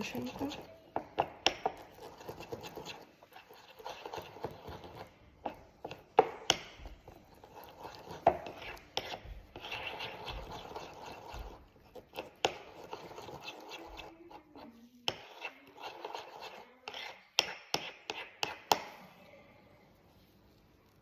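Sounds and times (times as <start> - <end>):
utensil scraping thick oil: 0.0 - 6.2, 6.8 - 18.8.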